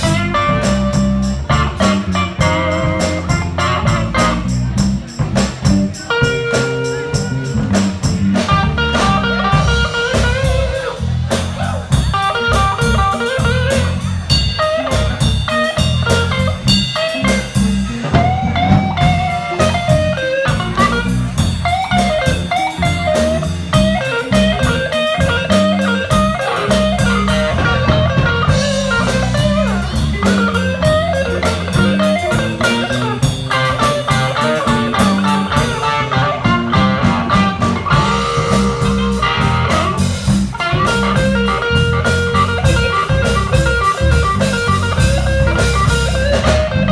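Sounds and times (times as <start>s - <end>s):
blues harmonica: 0.0s - 11.2s, 12.1s - 46.9s
drum kit beat: 0.0s - 46.9s
electric bass: 0.0s - 46.9s
electric guitars: 0.0s - 46.9s.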